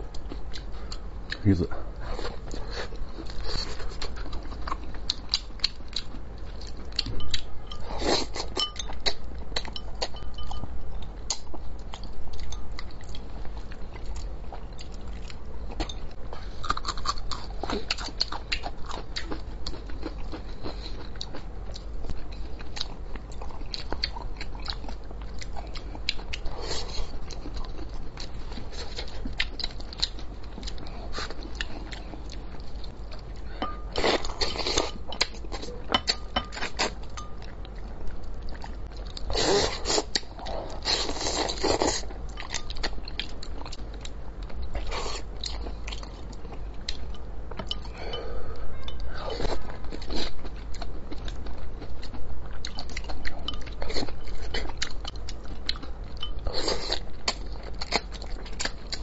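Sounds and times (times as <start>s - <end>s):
person chewing and smacking: 0.0s - 48.0s, 48.9s - 59.0s.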